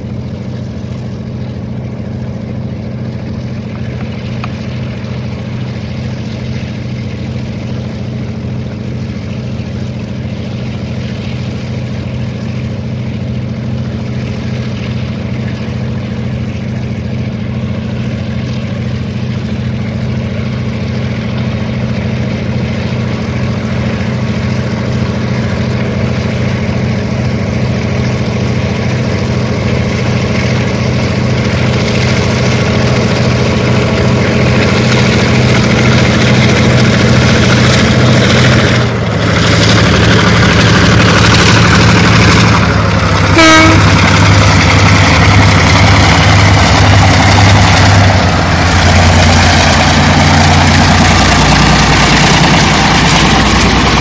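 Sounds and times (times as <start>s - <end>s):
diesel locomotive engines working: 0.0s - 54.0s.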